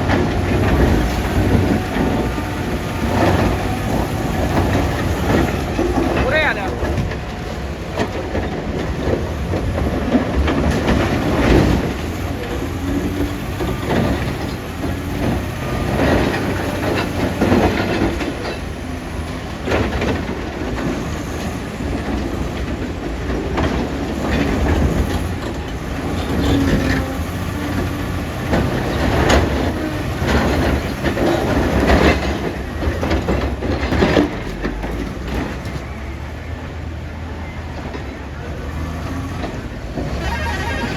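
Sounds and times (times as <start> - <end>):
diesel engine under load: 0.0 - 40.9.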